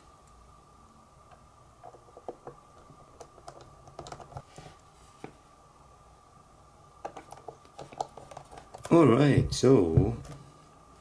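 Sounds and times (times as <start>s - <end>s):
faint steady whine: 0.0s - 11.0s.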